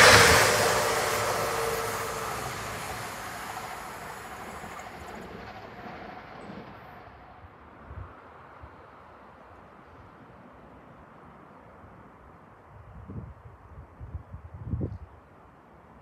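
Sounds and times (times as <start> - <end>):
diesel train rail noise and rumble: 0.0 - 15.8.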